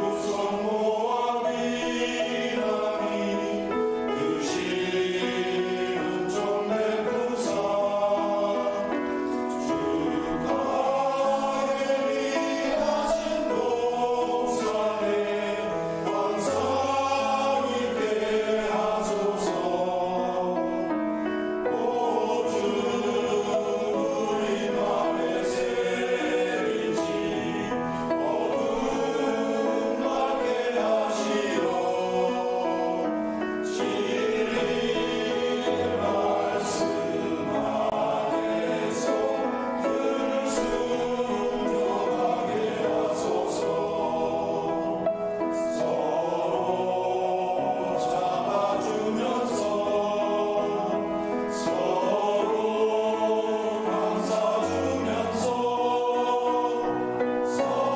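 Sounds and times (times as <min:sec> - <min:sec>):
choir singing a hymn: 0:00.0 - 0:57.9.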